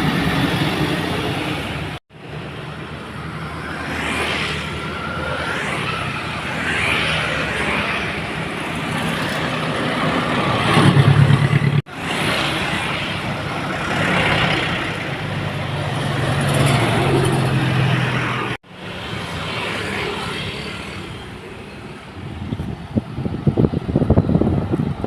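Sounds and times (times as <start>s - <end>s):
dump trucks passing on wet road: 0.0s - 21.1s.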